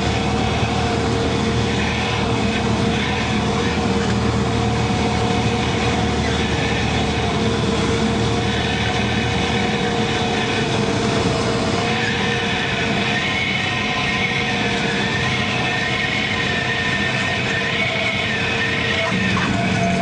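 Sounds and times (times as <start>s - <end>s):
propeller plane engine drone: 0.0s - 20.0s
rushing wind noise: 0.0s - 20.0s
thin engine whine: 0.0s - 20.0s.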